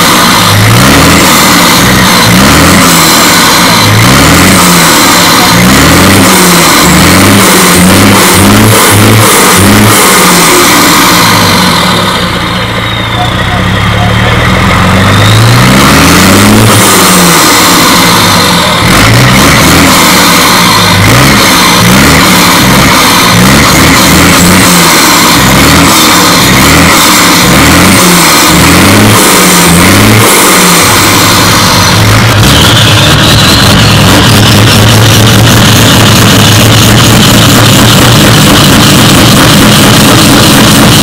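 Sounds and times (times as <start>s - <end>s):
truck diesel engine revving: 0.0s - 41.0s.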